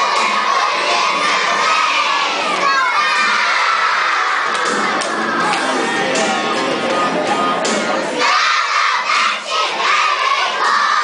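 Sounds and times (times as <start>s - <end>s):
children singing and shouting: 0.0s - 11.0s.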